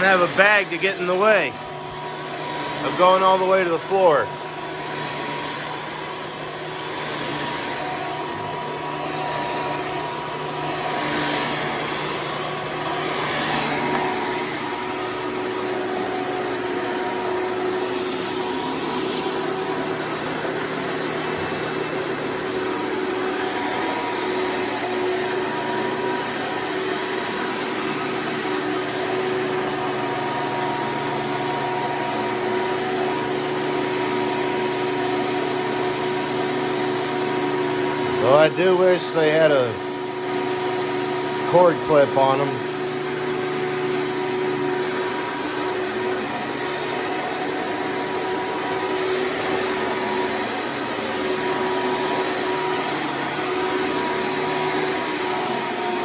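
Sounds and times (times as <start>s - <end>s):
upright vacuum cleaner running: 0.0s - 56.0s.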